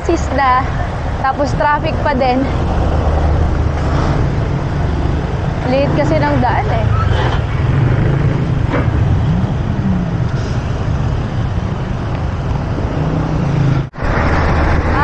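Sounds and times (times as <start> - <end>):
car and truck engines: 0.0 - 15.0
wind noise: 0.0 - 15.0.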